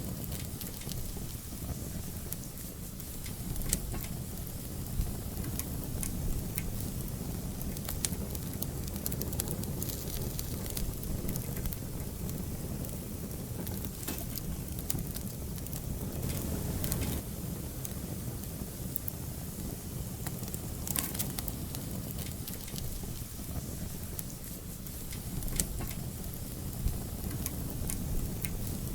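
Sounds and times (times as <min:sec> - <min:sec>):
fire crackling with pops: 0:00.0 - 0:28.9.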